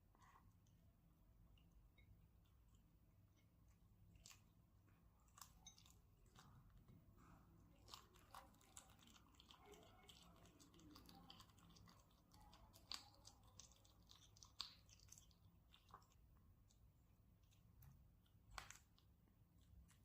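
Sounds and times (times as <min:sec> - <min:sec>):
kitten chewing crunchily: 0:03.7 - 0:20.0.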